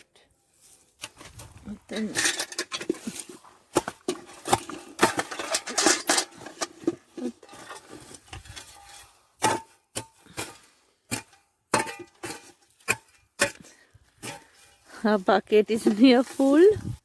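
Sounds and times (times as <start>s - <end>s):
soil rustling and crackling: 0.3s - 17.0s.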